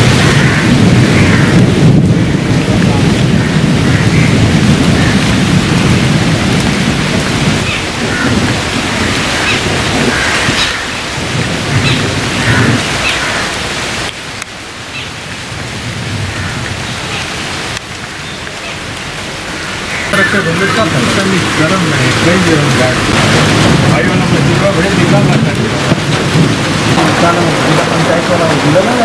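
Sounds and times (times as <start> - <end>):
heavy rain falling: 0.0 - 29.0
thunder rumbling: 0.0 - 29.0.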